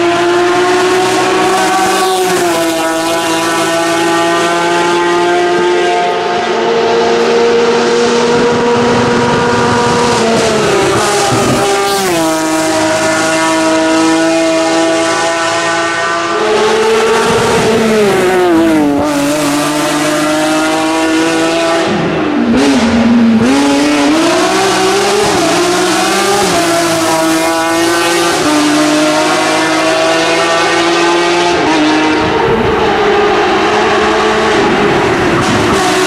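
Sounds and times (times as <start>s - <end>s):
race car engine at high revs: 0.0s - 36.0s.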